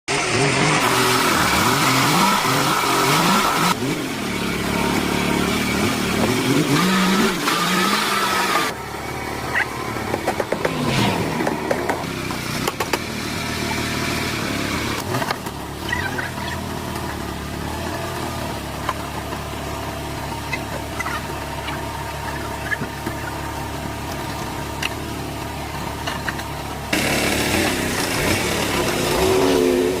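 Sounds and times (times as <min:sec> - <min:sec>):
engine revving: 0:00.1 - 0:30.0.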